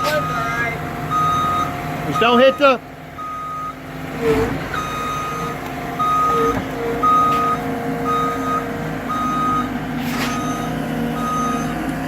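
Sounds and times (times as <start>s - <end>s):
engine running: 0.0s - 12.0s
reverse alarm beeping: 0.2s - 3.8s, 4.8s - 9.7s, 10.3s - 11.8s.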